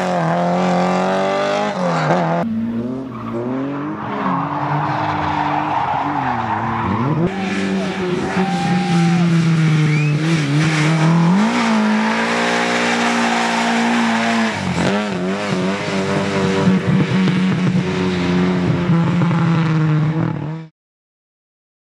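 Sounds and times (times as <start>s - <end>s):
rally car engine revving: 0.0s - 20.7s.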